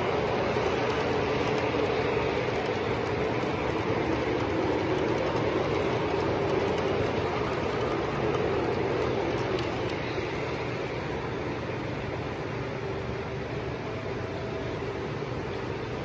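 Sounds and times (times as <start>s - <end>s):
model train cars rolling on track: 0.0s - 16.0s.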